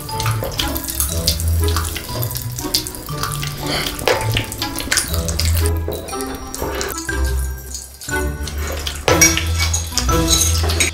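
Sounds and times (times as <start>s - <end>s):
wet chewing clicks and smacks: 0.0s - 10.7s.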